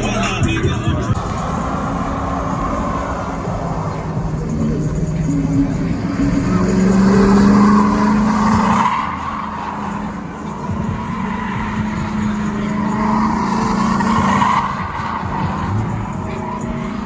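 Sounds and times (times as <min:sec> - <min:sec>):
tires squealing: 0:00.0 - 0:17.0
car engine at steady revs: 0:01.2 - 0:17.0.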